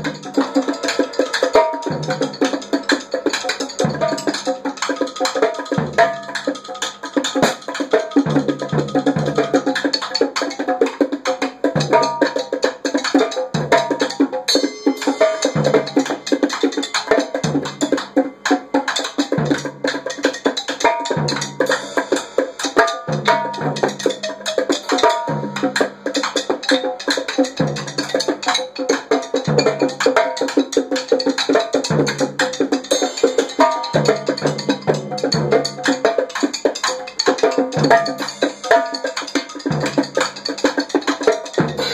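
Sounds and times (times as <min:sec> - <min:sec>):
bongos: 0:00.0 - 0:41.9
drum kit: 0:00.0 - 0:41.9
gourd percussion: 0:00.0 - 0:41.9.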